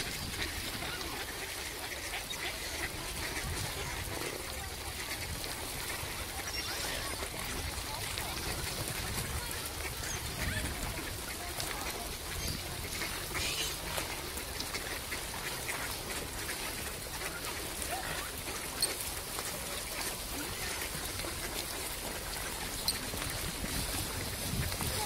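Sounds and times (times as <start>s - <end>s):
ducks quacking: 0.0s - 25.0s
outdoor background noise: 0.0s - 25.0s.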